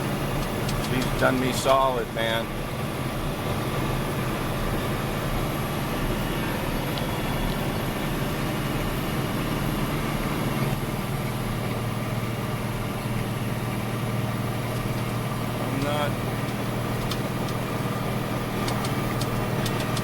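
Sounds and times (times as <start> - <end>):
truck engine under heavy load: 0.0 - 20.0.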